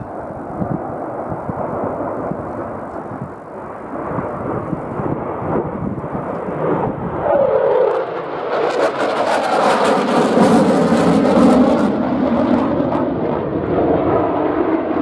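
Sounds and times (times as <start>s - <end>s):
jet engines roaring with crackle: 0.0s - 15.0s.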